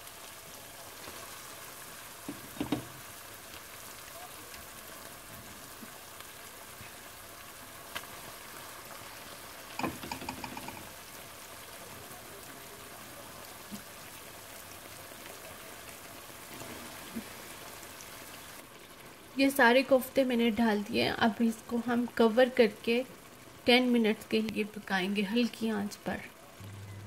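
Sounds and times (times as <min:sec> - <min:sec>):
gravy sizzling in a pan: 0:00.0 - 0:27.0.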